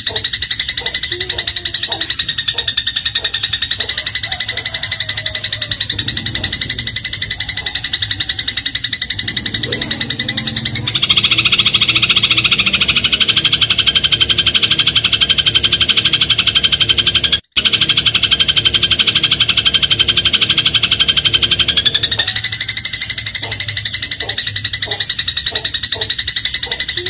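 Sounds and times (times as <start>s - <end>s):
sparrow chirping: 0.0s - 27.0s.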